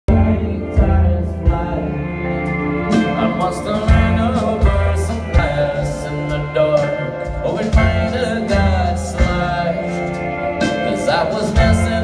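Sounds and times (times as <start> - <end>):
live band music: 0.0 - 12.0
heavy bass line: 0.1 - 12.0
person singing: 0.1 - 12.0.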